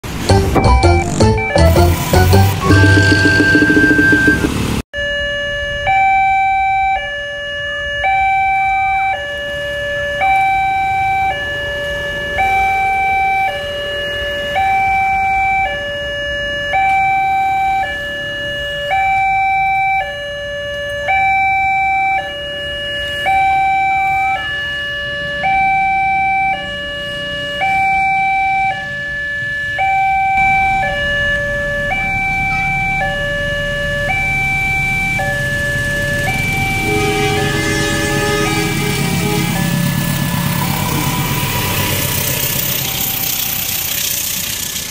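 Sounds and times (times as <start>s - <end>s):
two-tone crossing alarm: 0.0s - 44.9s.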